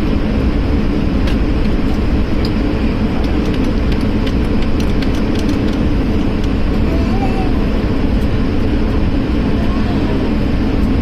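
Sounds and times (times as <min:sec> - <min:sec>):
airflow around fuselage: 0:00.0 - 0:11.0
airliner engine rumble: 0:00.0 - 0:11.0.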